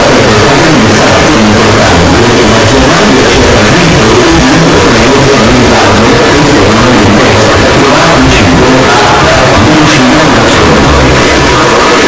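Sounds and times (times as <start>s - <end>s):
distorted alarm noise: 0.0s - 12.0s.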